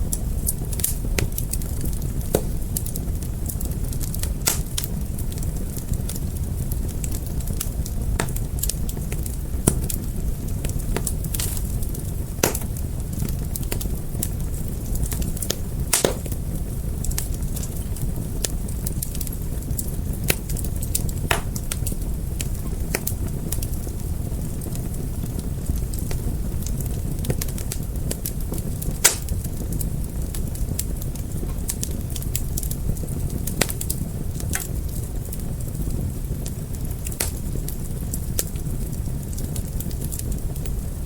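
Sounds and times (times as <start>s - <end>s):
fire crackling: 0.0s - 41.0s.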